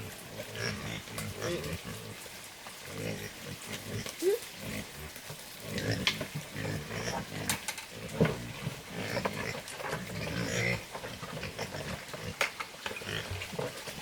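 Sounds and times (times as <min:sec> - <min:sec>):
animal grunting: 0:00.0 - 0:02.2, 0:02.9 - 0:12.4.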